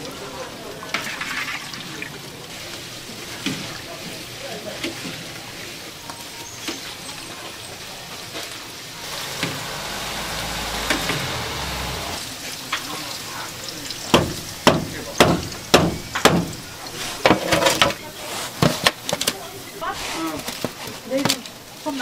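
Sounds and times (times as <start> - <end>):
hot oil sizzling and bubbling: 0.0 - 22.0.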